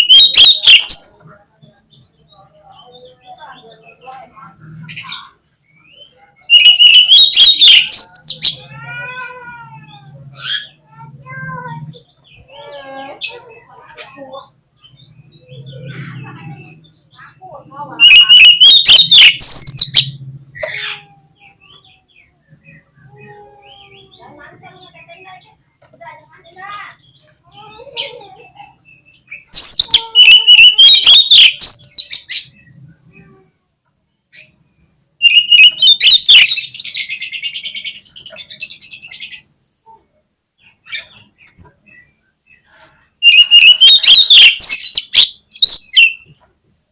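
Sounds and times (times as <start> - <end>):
bird harsh calls: 0.0 - 1.2, 1.8 - 25.5, 26.5 - 33.5, 34.3 - 39.6, 40.6 - 46.4
songbird whistles and chatter: 0.0 - 4.1, 4.9 - 10.8, 11.8 - 25.3, 27.0 - 33.4, 35.2 - 39.5, 40.8 - 46.4.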